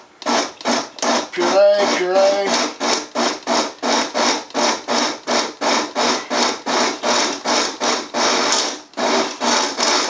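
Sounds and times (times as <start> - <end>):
blender pulsing: 0.0 - 10.0.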